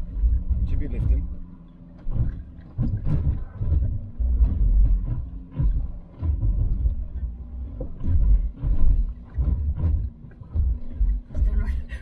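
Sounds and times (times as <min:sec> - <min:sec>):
diesel engine low rumble in cabin: 0:00.0 - 0:12.0.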